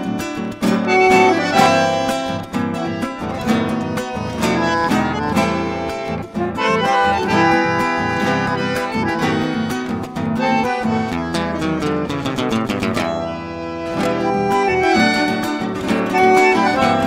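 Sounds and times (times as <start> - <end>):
accordion melody: 0.0 - 17.0
plucked guitar chords: 0.0 - 17.0.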